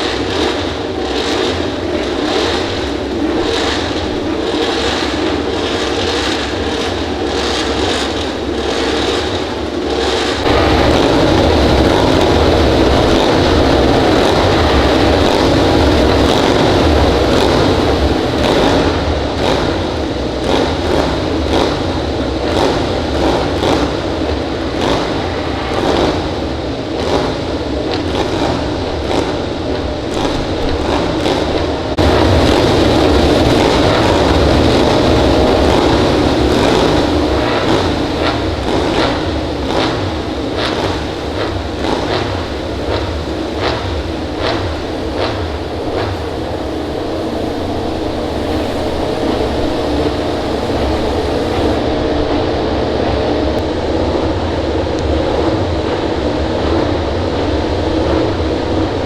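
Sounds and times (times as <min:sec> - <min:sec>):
engine crackles: 0:00.0 - 0:59.0
racing motorcycle engines: 0:00.0 - 0:59.0.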